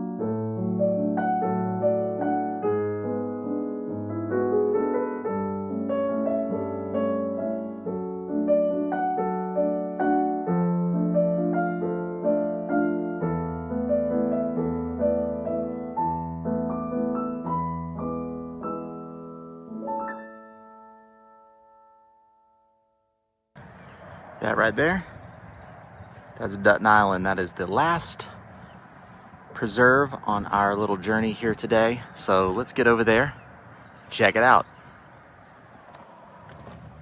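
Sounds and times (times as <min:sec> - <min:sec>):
gentle piano music: 0:00.0 - 0:35.5.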